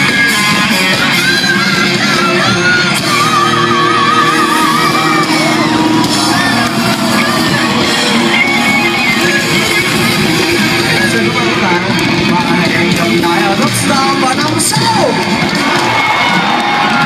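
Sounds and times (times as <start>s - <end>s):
electric guitar lead notes: 0.0s - 17.0s
live rock band playing: 0.0s - 17.0s.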